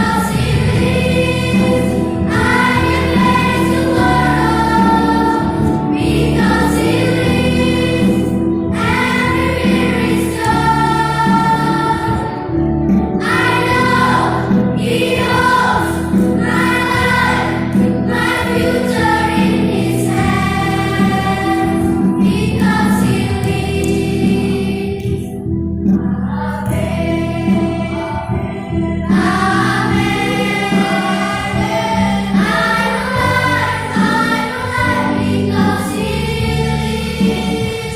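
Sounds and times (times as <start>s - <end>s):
children's choir singing: 0.0s - 37.9s
low instrumental accompaniment: 0.0s - 37.9s.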